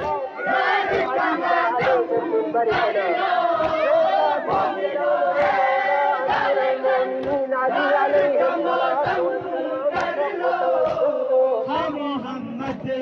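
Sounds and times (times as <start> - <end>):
men chanting a lament: 0.0 - 13.0.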